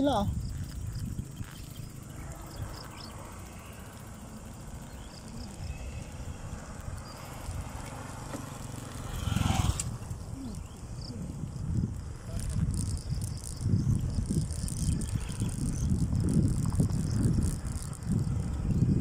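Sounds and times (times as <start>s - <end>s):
bicycle rattling on concrete road: 0.0s - 19.0s
wind rumbling on microphone: 0.0s - 19.0s.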